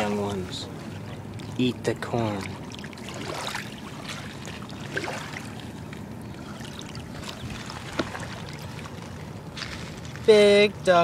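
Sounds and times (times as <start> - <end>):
stream water trickling: 0.0 - 11.0.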